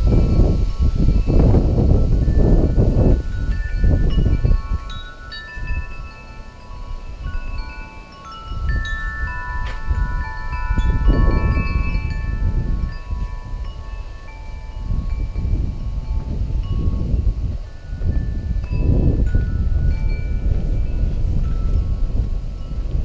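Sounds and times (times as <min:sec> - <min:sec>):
wind buffeting microphone: 0:00.0 - 0:23.0
wind chime ringing: 0:00.0 - 0:23.0.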